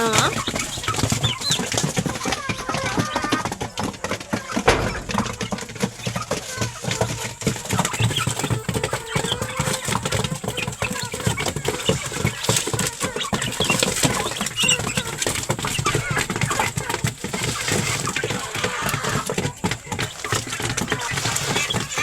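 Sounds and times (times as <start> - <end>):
chickens clucking: 0.0 - 22.0
chickens pecking grain: 0.0 - 22.0
chicks peeping: 0.0 - 22.0.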